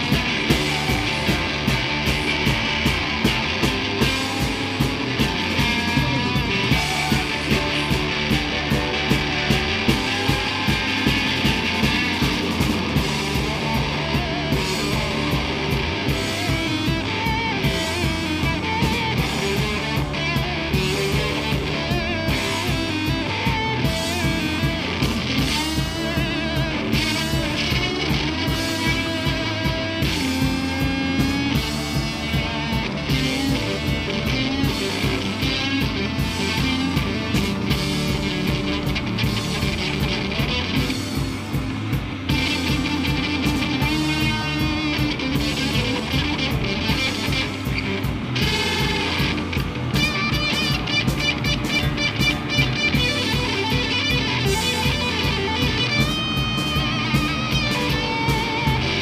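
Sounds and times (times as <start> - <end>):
bass guitar: 0.0 - 59.0
distorted electric guitar: 0.0 - 59.0
live rock band playing: 0.0 - 59.0
steady drum beat: 0.0 - 59.0.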